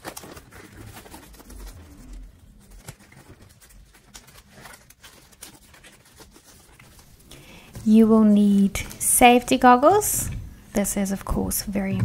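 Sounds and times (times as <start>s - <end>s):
gloves rustling and stretching: 0.0s - 10.8s.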